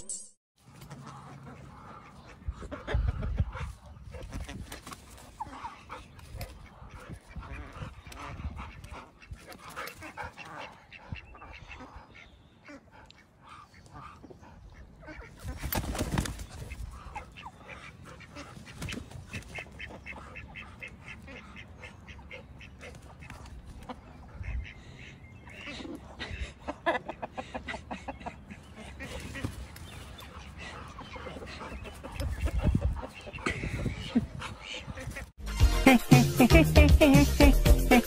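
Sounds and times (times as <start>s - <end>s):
chickens and ducks calling: 0.7s - 35.3s.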